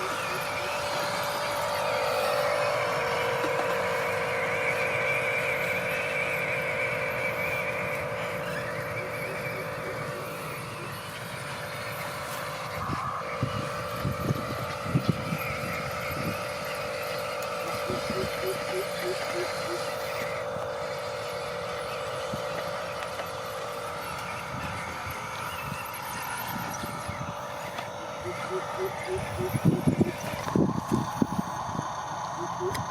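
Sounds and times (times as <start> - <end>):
small electric motor whining: 0.0 - 32.9.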